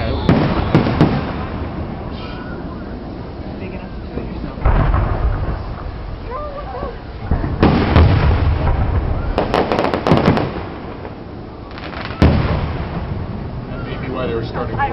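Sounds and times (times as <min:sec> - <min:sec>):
fireworks crackling pops: 0:00.0 - 0:14.2
firework booms: 0:00.0 - 0:14.9.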